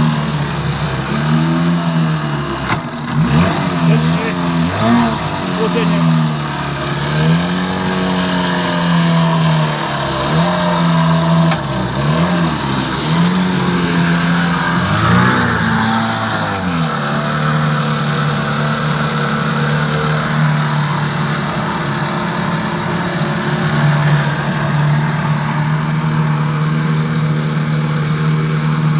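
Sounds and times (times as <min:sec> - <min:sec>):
outboard motor running: 0:00.0 - 0:28.9
propeller churning water: 0:00.1 - 0:16.9, 0:20.8 - 0:28.9.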